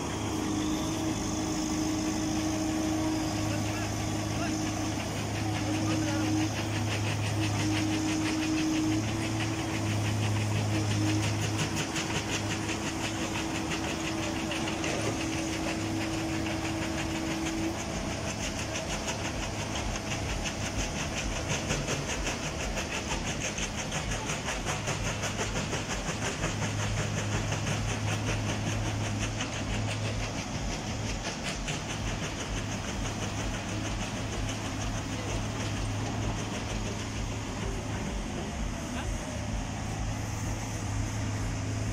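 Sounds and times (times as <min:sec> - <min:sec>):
backhoe engine running under load: 0:00.0 - 0:41.9.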